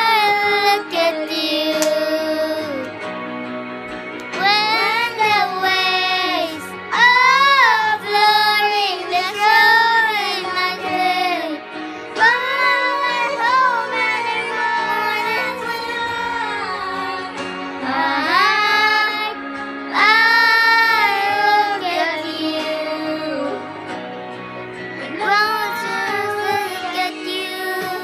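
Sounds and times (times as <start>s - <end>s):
girls singing a slow ballad: 0.0s - 3.2s, 4.3s - 24.1s, 24.9s - 28.0s
instrumental accompaniment: 0.0s - 28.0s.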